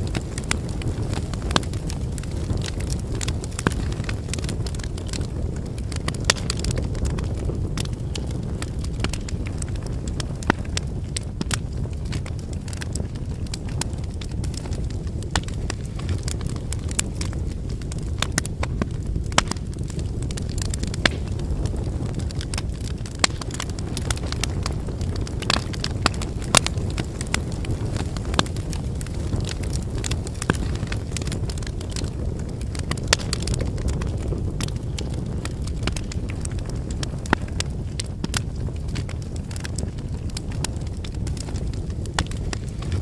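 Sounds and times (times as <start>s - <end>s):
campfire flames rumbling: 0.0s - 43.0s
fire crackling and popping: 0.0s - 43.0s.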